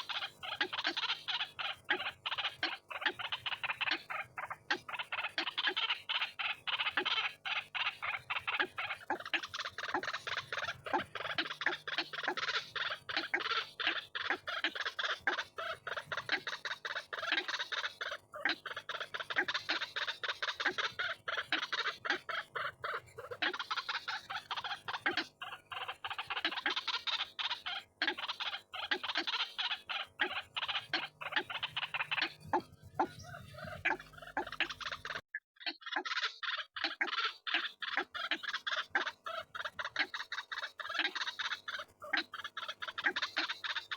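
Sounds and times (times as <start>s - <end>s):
bird calling harsh repeated notes: 0.0s - 43.9s.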